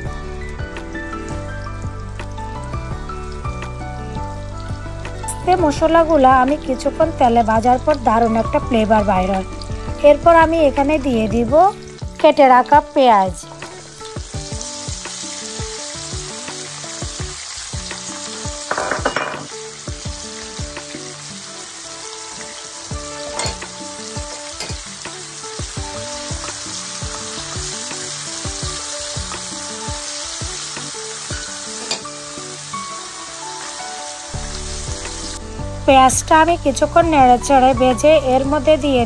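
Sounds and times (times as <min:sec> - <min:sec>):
onions sizzling in hot oil: 0:00.0 - 0:39.0.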